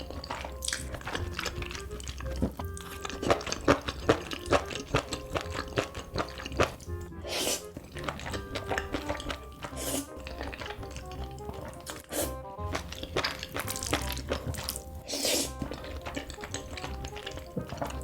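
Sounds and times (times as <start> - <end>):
background music: 0.0 - 18.0
chewing clicks and crunches: 0.0 - 18.0.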